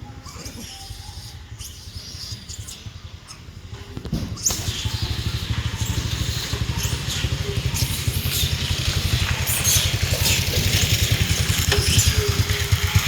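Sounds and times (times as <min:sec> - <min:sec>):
engine idling with low throb: 0:00.7 - 0:13.0.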